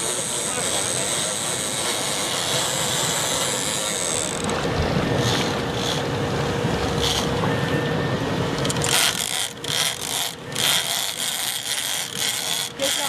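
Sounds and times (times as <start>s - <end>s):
boat engine running: 0.0s - 13.0s
churning wake: 0.0s - 13.0s.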